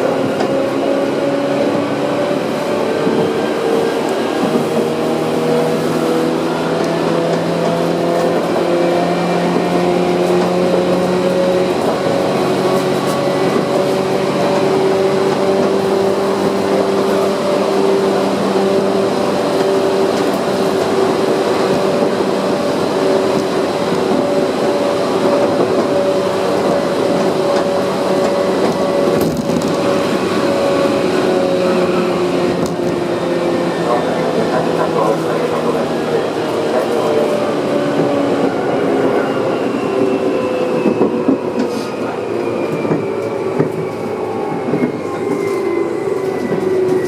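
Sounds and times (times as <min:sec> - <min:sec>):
train rumble: 0:00.0 - 0:47.0.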